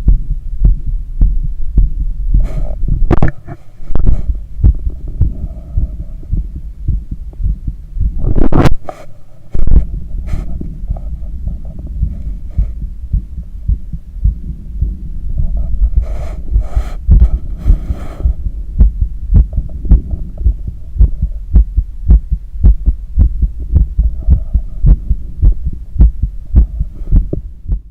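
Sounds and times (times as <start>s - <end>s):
heartbeat through stethoscope: 0.0s - 27.9s.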